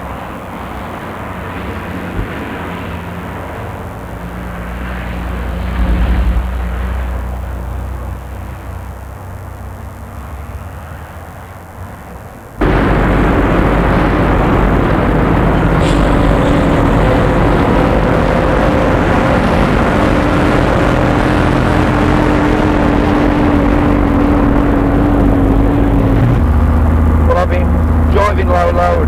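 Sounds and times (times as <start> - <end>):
diesel lorry engine running: 0.0 - 29.0
road and tyre noise: 0.0 - 29.0.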